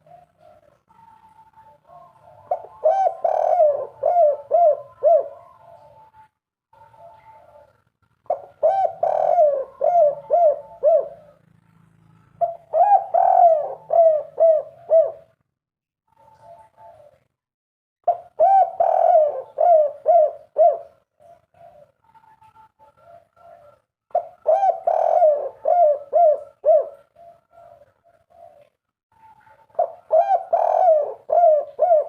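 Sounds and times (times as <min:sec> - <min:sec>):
faint dove calls: 0:00.0 - 0:11.4, 0:12.4 - 0:15.4, 0:18.1 - 0:32.0
dove cooing: 0:00.0 - 0:15.4, 0:16.1 - 0:17.4, 0:18.1 - 0:32.0.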